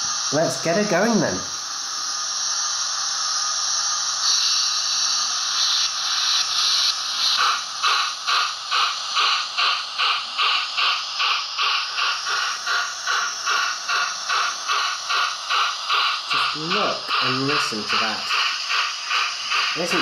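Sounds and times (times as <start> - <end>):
steam hiss: 0.0 - 20.0
steam locomotive exhaust chuffs: 0.0 - 20.0.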